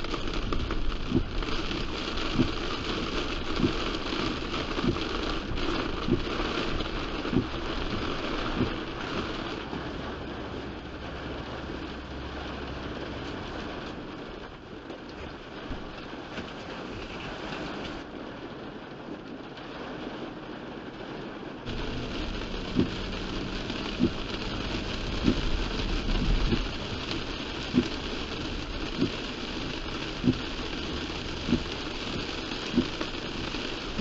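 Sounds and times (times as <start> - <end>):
low rumble: 0.0 - 16.2, 21.7 - 34.0
road noise: 0.0 - 18.2, 20.0 - 34.0
heavy rain on a car: 0.0 - 34.0.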